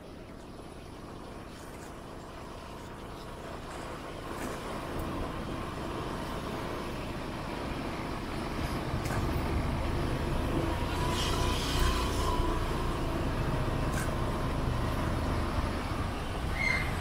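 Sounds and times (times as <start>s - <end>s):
faint thin whine: 0.0s - 17.0s
vehicle engine and road rumble: 0.0s - 17.0s.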